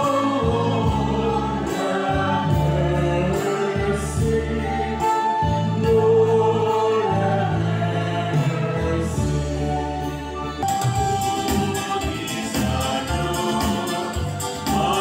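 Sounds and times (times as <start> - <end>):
choir singing a hymn: 0.0 - 15.0
instrumental accompaniment: 0.0 - 15.0.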